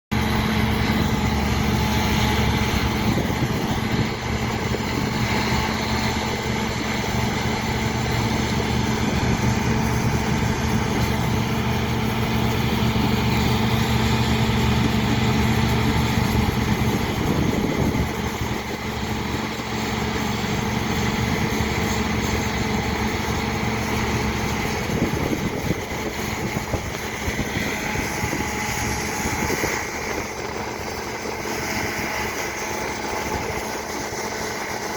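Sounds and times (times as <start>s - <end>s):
combine harvester engine drone: 0.1s - 34.9s.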